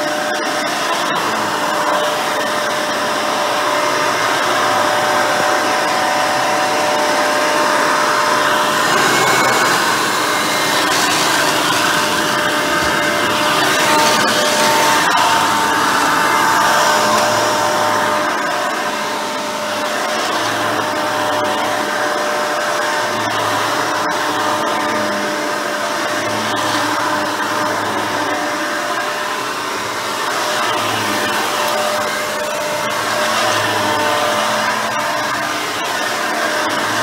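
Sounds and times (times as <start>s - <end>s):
upright vacuum whining: 0.0s - 37.0s.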